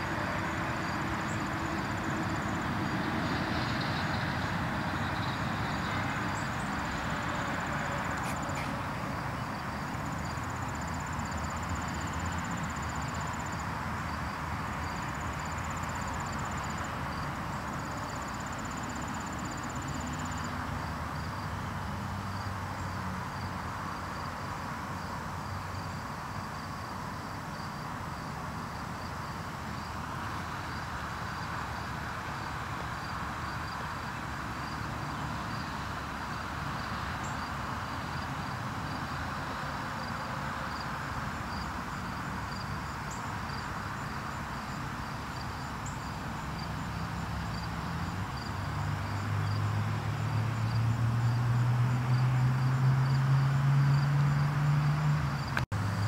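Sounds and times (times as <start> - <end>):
insects chirping: 0.1 - 55.7.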